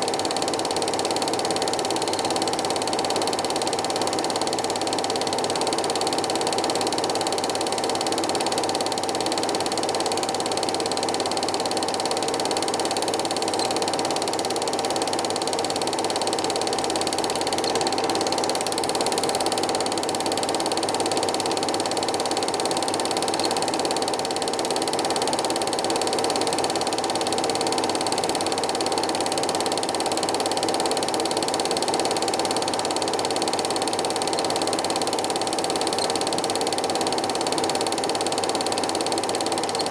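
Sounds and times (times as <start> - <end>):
film projector rattling: 0.0 - 39.9.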